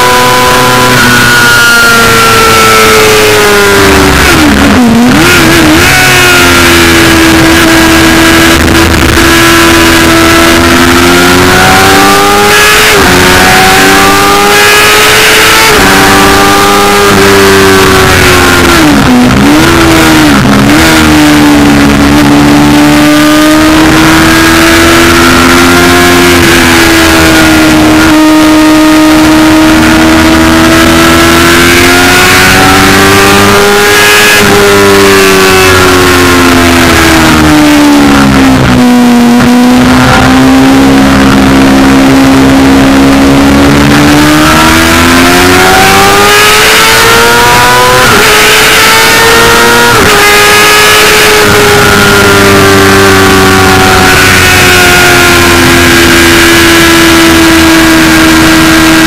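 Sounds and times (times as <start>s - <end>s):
racing engine revving: 0.0s - 59.0s.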